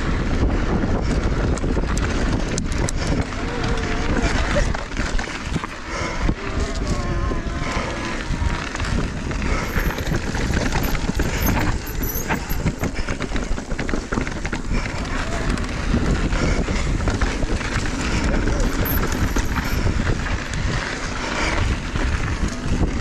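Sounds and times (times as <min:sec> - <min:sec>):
bike rattling and knocking: 0:00.0 - 0:23.0
bike tyres on dirt trail: 0:00.0 - 0:23.0
wind rumbling on microphone: 0:00.0 - 0:23.0.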